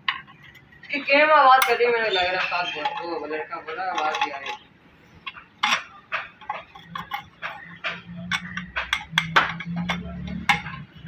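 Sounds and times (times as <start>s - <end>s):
hand tools clicking on metal: 1.6s - 11.0s.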